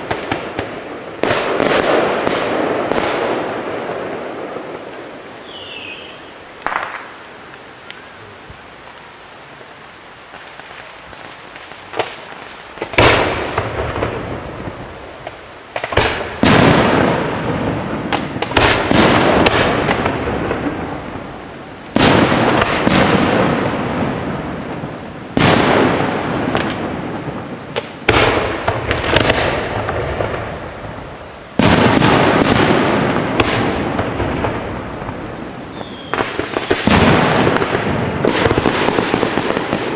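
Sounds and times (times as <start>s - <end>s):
crackling rumbling tail: 0.0s - 39.9s
fireworks bursting: 0.0s - 39.9s.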